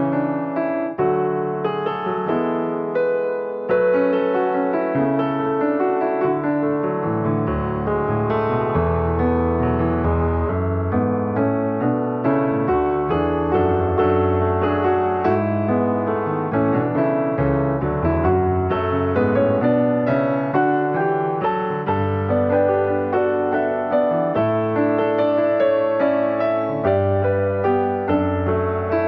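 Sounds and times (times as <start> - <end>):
piano piece: 0.0 - 29.0.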